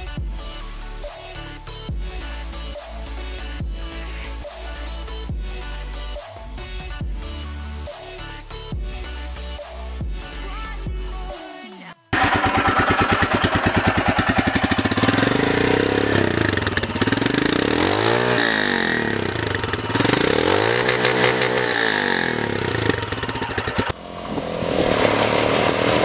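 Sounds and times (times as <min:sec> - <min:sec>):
motorcycle engine idling and revving: 0:00.0 - 0:11.1, 0:12.2 - 0:26.0.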